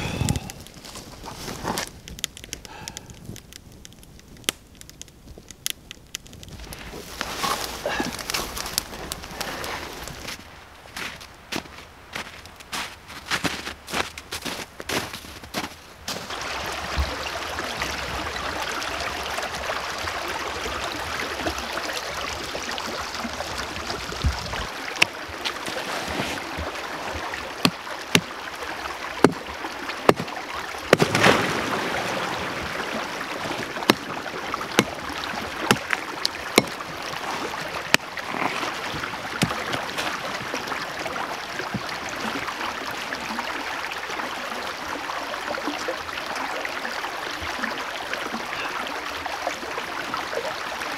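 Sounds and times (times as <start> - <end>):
creek water rushing: 0.0 - 2.0, 6.6 - 50.9.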